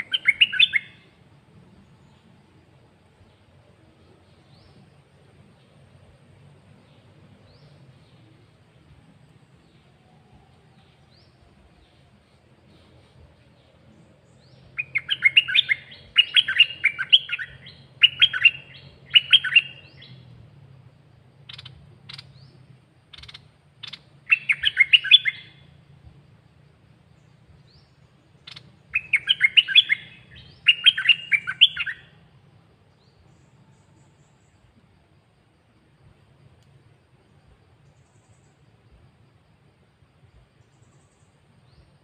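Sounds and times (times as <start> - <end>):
faint low hum: 0.0 - 42.0
songbird singing: 0.0 - 42.0.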